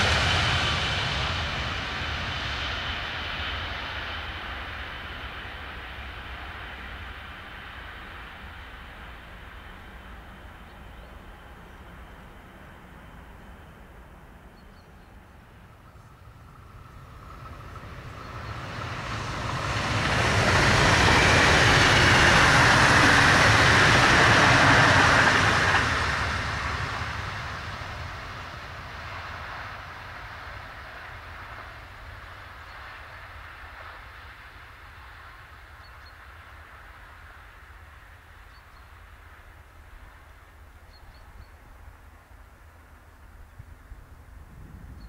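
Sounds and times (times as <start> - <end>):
train passing at speed: 0.0 - 45.0.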